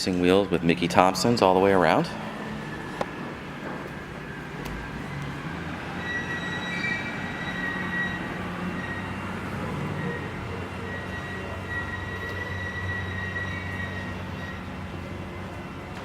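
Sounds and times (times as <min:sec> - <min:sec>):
steady mechanical hum: 0:00.0 - 0:16.0
thin high whine: 0:00.0 - 0:16.0.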